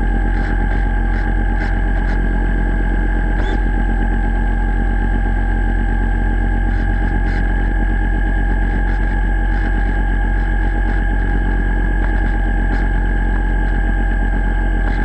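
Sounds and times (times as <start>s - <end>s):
electric motor whine underwater: 0.0s - 15.0s.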